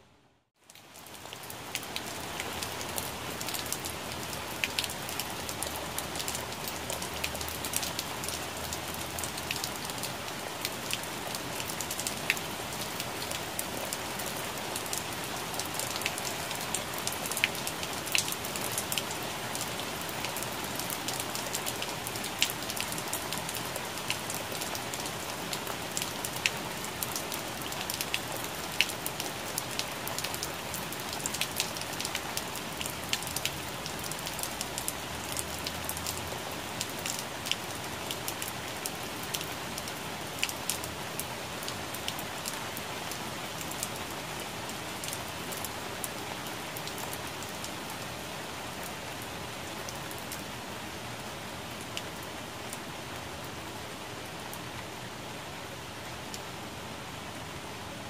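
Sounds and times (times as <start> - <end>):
rain pattering on leaves: 0.6 - 58.0.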